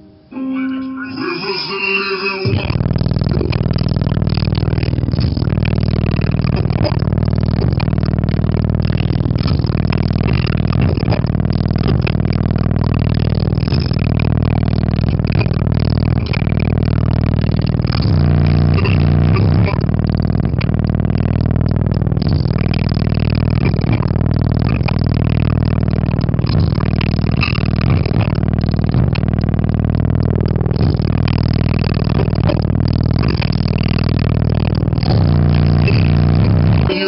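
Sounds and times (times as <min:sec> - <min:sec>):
bass-heavy car audio music: 0:00.0 - 0:37.0.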